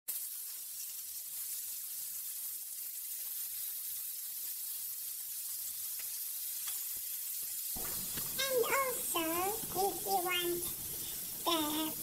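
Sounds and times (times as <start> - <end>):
meat sizzling on grill pan: 0.1 - 12.0.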